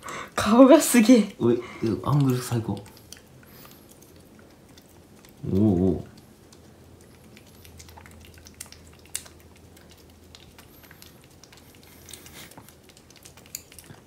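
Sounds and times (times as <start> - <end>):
kitten licking wet smacking: 0.0 - 14.0.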